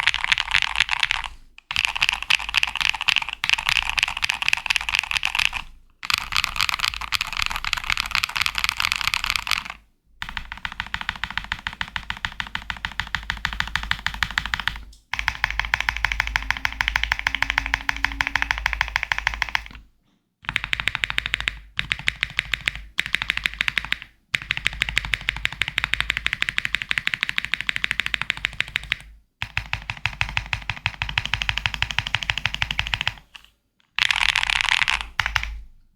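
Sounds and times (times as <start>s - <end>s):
mechanical keyboard typing: 0.0s - 19.8s, 20.4s - 35.6s.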